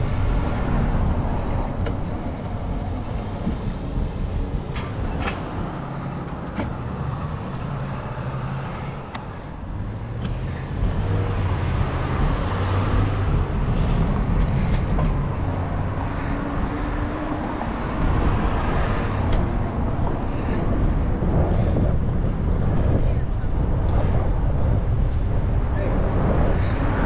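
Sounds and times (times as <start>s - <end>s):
tyre noise on street: 0.0s - 27.0s
vehicle engines running: 0.0s - 27.0s.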